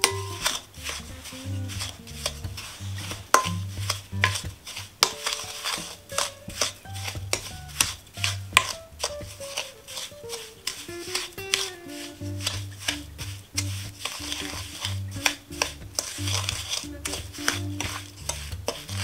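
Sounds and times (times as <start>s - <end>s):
soft background music: 0.0s - 19.0s
wooden spoon scraping bowl: 0.0s - 19.0s.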